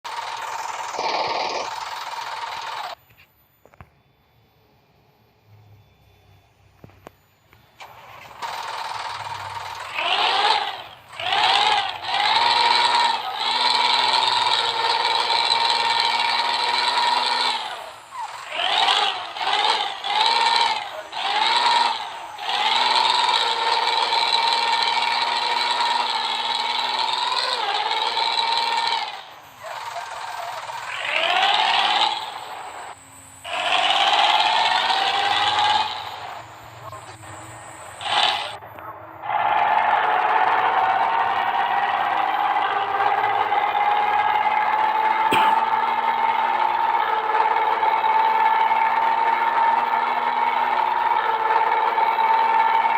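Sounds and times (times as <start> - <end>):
bus diesel engine revving: 0.1 - 3.0, 7.8 - 38.6, 39.2 - 52.9.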